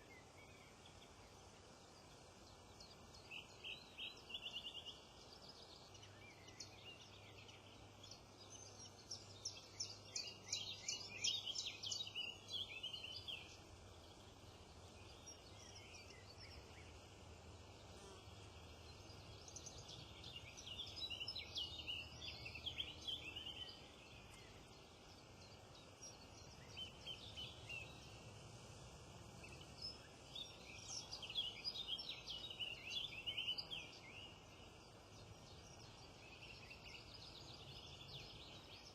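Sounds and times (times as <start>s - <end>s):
faint steady background noise: 0.0s - 38.9s
small songbirds singing: 0.0s - 38.9s.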